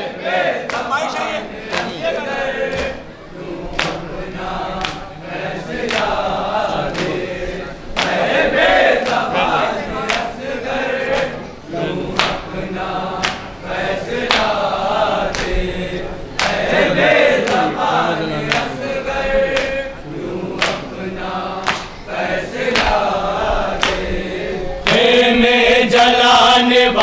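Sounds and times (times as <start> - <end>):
men's chorus chanting: 0.0 - 27.0.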